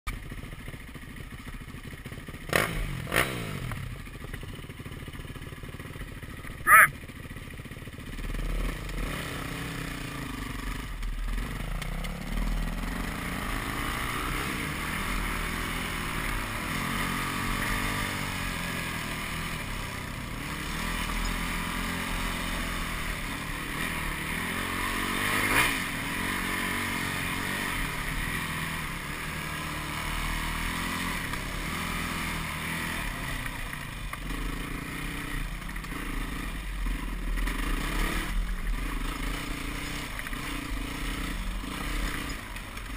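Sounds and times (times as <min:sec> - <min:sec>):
dirt bike engine revving: 0:02.4 - 0:07.0, 0:08.0 - 0:42.9.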